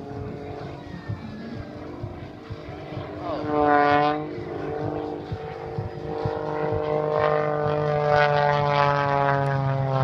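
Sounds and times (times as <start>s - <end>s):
airplane engine droning overhead: 0.0s - 10.0s.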